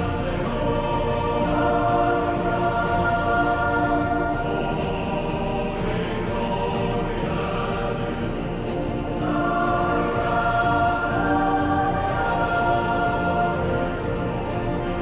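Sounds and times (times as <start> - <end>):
choir holding long chords: 0.0 - 15.0.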